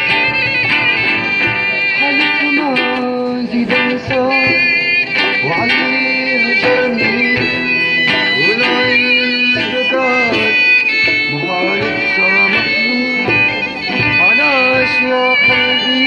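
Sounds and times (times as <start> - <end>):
instrumental accompaniment: 0.0 - 16.0
violin-like sliding melody: 0.0 - 16.0.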